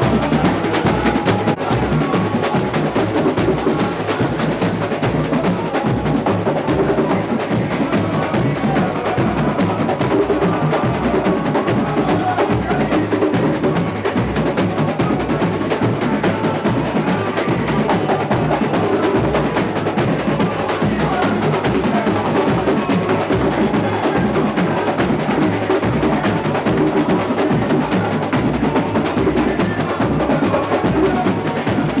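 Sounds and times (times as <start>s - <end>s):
samba percussion drumming: 0.0s - 32.0s.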